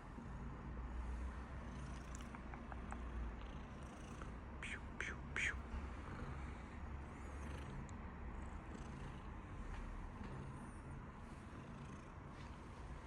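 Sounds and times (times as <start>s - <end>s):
cat purring: 0.4s - 4.8s, 5.4s - 13.0s.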